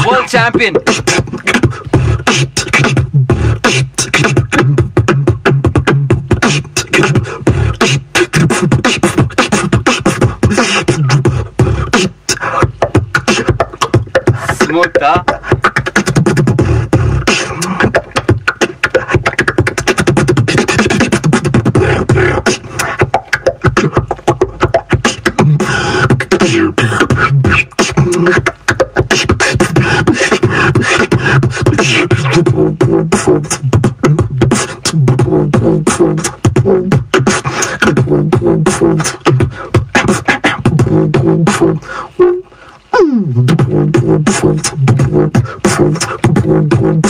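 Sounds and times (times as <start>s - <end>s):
beatboxing: 0.0s - 47.0s.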